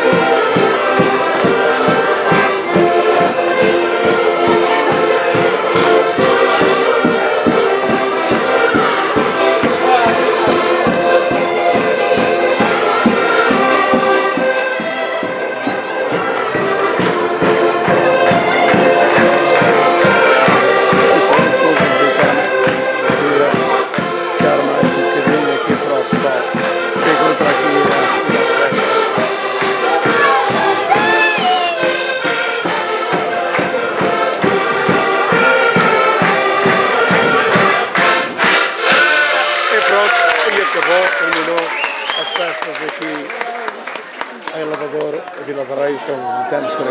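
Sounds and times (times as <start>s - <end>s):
live folk band playing: 0.0s - 45.1s
crowd voices: 0.0s - 46.9s.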